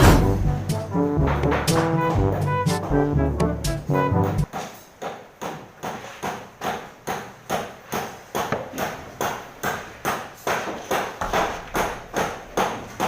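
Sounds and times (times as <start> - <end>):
hammer striking: 0.0 - 13.0.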